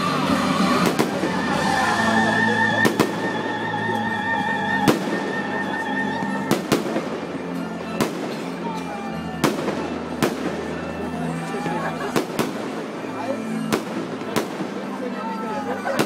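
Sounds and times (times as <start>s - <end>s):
fireworks bursting: 0.0s - 4.0s, 4.7s - 8.8s, 9.4s - 16.0s
music playing: 0.0s - 16.0s.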